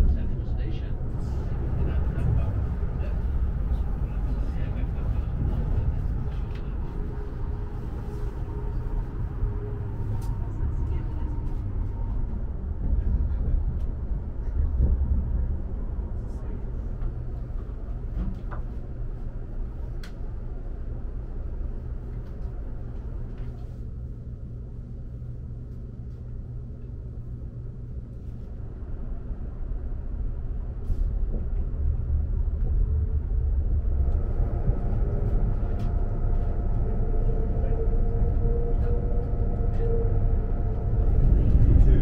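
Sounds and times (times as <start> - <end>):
faint steady whine: 0.0 - 42.0
train carriage rumble: 0.0 - 42.0.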